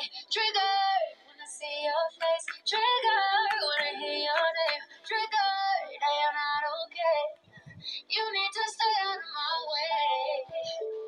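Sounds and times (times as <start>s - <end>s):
song with female vocal: 0.0s - 11.0s.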